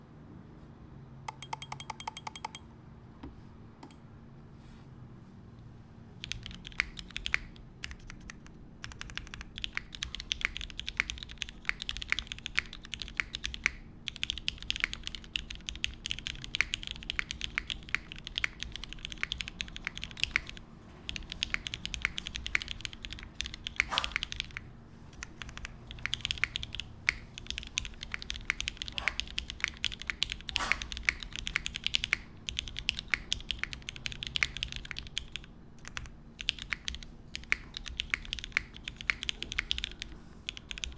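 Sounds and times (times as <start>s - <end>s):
mechanical keyboard typing: 1.3s - 2.6s, 6.2s - 40.9s.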